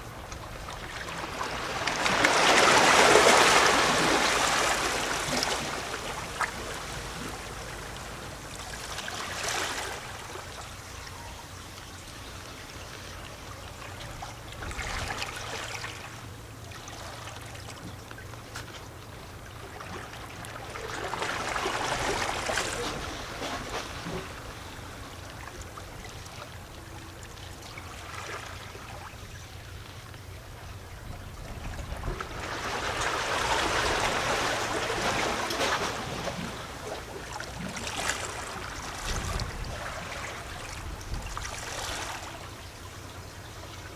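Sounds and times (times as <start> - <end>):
small waves lapping against rocks: 0.0 - 11.0, 12.4 - 26.7, 31.0 - 43.9.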